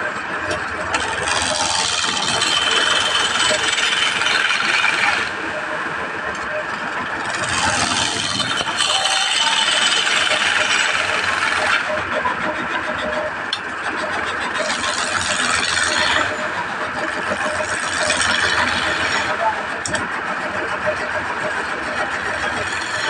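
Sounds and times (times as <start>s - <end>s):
chisel shaving spinning wood: 0.0s - 23.0s
wood lathe running: 0.0s - 23.0s.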